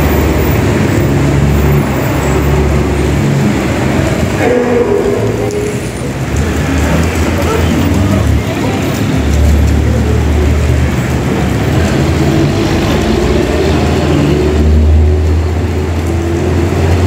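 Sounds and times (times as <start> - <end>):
wet road hiss and rain: 0.0 - 17.0.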